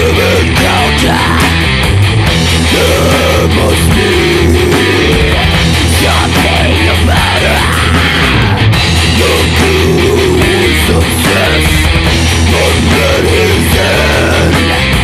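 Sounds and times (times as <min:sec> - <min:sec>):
electric guitars: 0:00.0 - 0:15.0
heavy metal song: 0:00.0 - 0:15.0.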